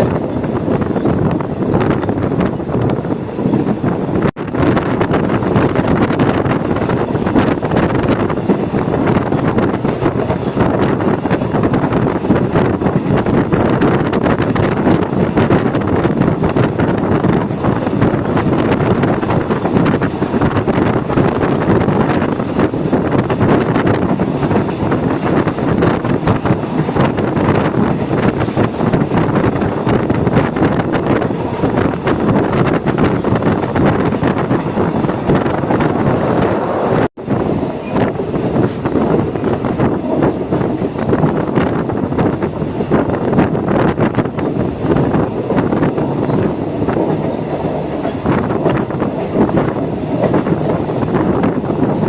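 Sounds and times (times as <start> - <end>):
train running noise: 0.0 - 52.0
wind on microphone: 0.0 - 52.0.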